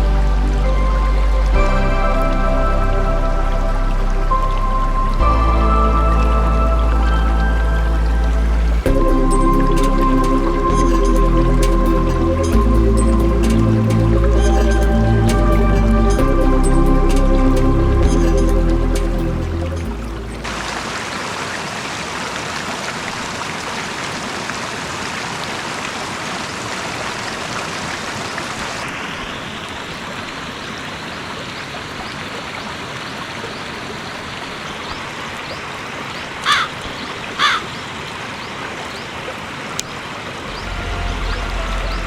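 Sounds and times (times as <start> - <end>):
forest stream rushing: 0.0 - 42.0.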